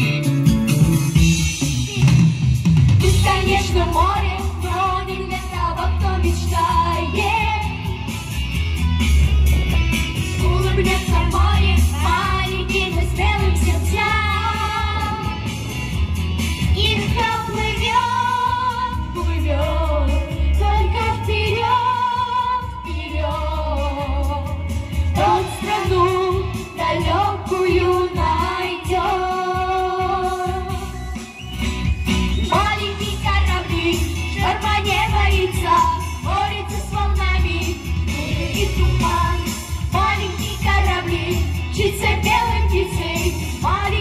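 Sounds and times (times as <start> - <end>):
pop backing track with bass: 0.0 - 44.0.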